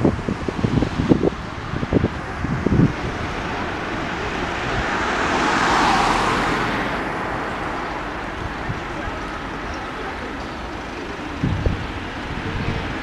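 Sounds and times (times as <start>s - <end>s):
car passing by: 0.0s - 13.0s.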